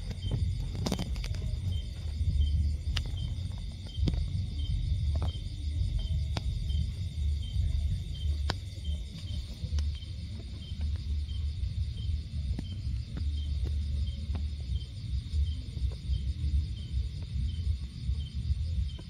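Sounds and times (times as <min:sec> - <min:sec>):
crickets chirping: 0:00.0 - 0:19.0
low rumble: 0:00.0 - 0:19.0.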